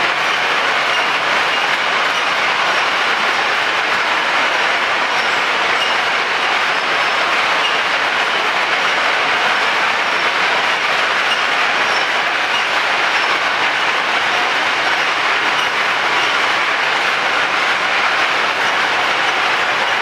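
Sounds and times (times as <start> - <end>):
chain conveyor rattling: 0.0 - 20.0.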